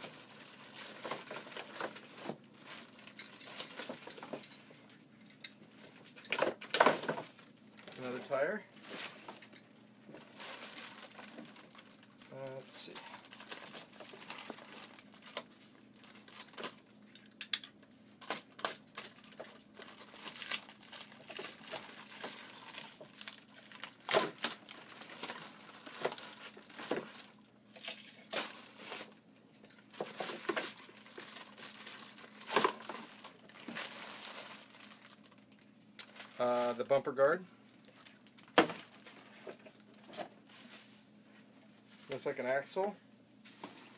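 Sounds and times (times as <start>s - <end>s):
plastic wrap crinkling: 0.0s - 4.9s, 5.6s - 41.0s.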